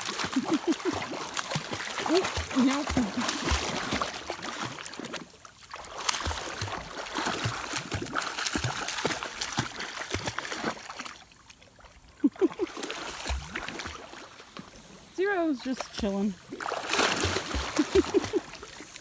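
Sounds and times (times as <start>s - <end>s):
water splashing around legs: 0.0s - 14.6s, 15.2s - 19.0s
running stream: 0.0s - 19.0s.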